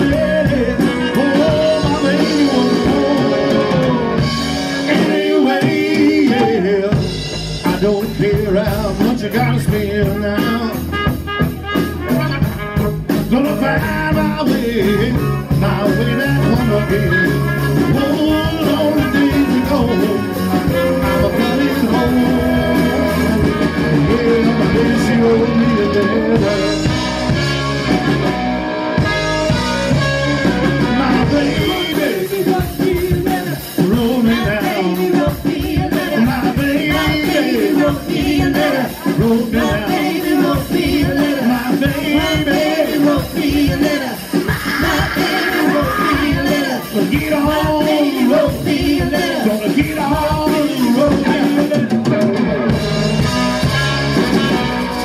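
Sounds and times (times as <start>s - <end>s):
trumpet: 0.0s - 7.0s, 7.6s - 55.0s
person singing: 0.0s - 10.9s, 13.2s - 27.4s, 29.2s - 53.4s
bass guitar: 0.0s - 55.0s
drum kit: 0.0s - 55.0s
electric guitar: 0.0s - 55.0s.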